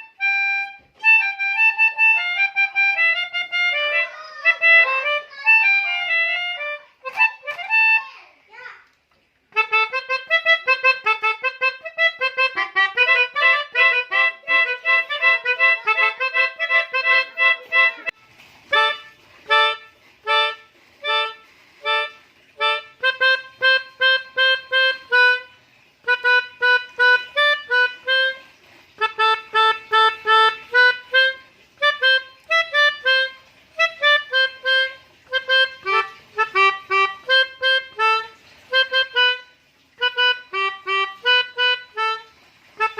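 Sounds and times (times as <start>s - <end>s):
melodica playing short notes: 0.0s - 8.1s, 9.6s - 42.9s.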